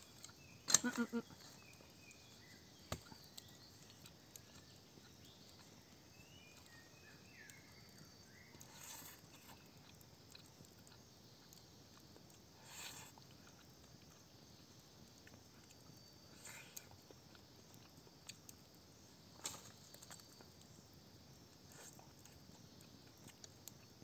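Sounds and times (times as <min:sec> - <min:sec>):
faint chirping calls: 0:00.0 - 0:24.0.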